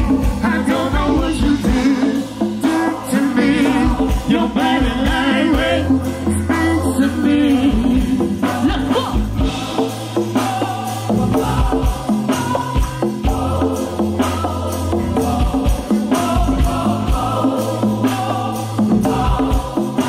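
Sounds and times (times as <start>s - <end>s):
bass line: 0.0s - 20.0s
live band music: 0.0s - 20.0s
person singing with vibrato: 0.0s - 20.0s.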